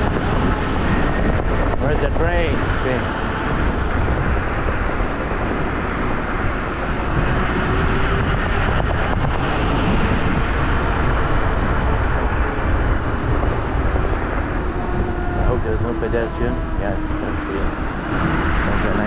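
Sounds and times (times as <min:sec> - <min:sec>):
scooter road noise: 0:00.0 - 0:19.0
wind rush: 0:00.0 - 0:19.0.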